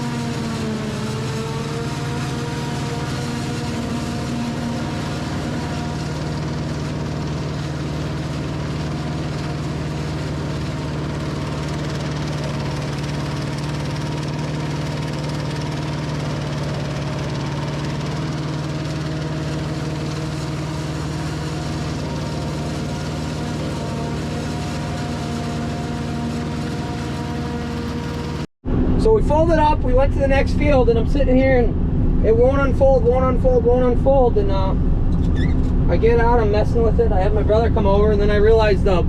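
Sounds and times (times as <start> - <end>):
harvester engine running: 0.0 - 39.0.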